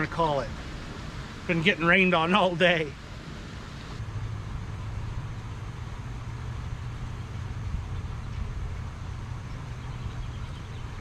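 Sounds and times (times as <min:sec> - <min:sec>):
low continuous rumble: 0:00.0 - 0:11.0
rain hiss: 0:00.0 - 0:11.0.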